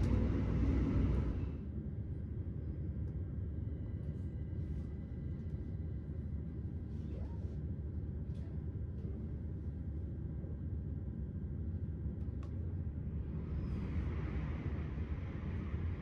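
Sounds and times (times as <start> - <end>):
low rumble of train wheels: 0.0 - 16.0.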